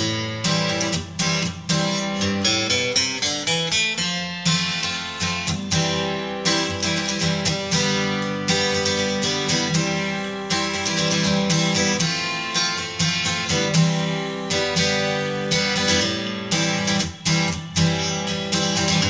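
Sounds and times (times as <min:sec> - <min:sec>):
strummed acoustic guitar: 0:00.0 - 0:19.0.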